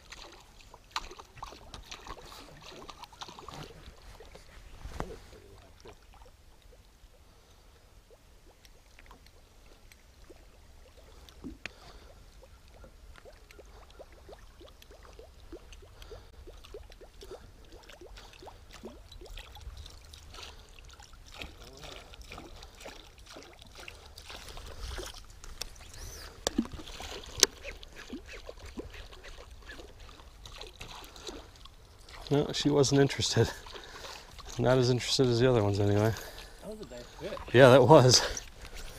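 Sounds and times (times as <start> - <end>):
water swishing and splashing: 0.0 - 38.9.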